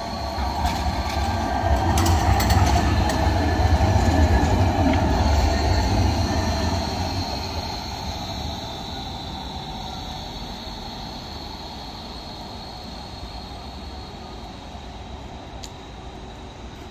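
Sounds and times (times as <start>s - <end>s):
high whine: 0.0s - 16.9s
tram wheels and motors rumbling: 0.0s - 16.9s.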